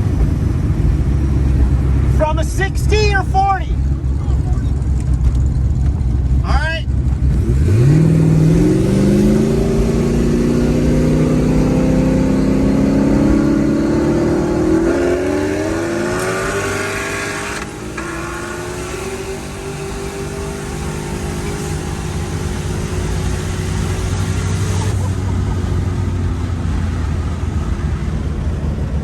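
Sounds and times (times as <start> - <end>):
car engine accelerating through gears: 3.8 - 29.0.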